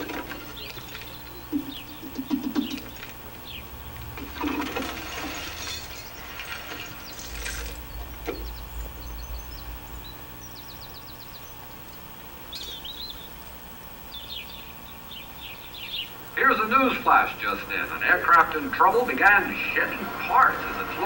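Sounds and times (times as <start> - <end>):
birds chirping: 0.0 - 21.0
low background hum: 0.0 - 21.0.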